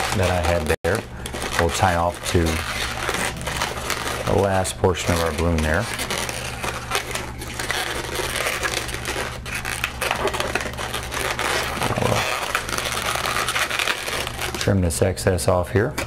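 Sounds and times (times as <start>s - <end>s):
balloon rubber rubbing and creaking: 0.0s - 16.0s
steady low hum: 0.0s - 16.0s.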